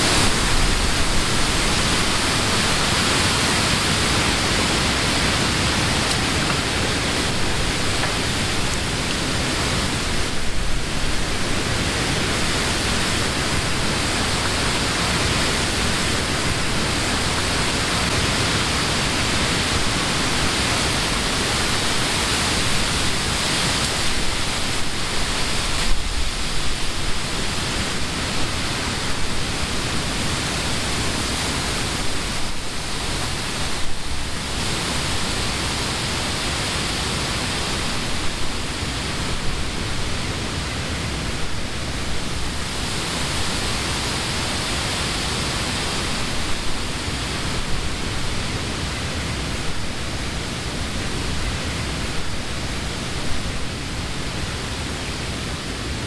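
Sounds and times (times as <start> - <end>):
wind rustling tree leaves: 0.0 - 56.0.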